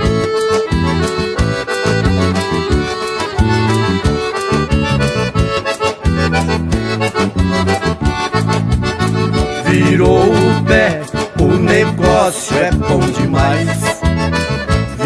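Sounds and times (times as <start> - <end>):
accordion melody: 0.0 - 15.0
steady rhythmic beat: 0.0 - 15.0.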